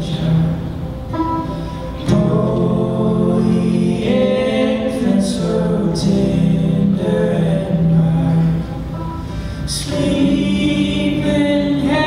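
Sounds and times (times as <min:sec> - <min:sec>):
men singing: 0:02.0 - 0:12.0.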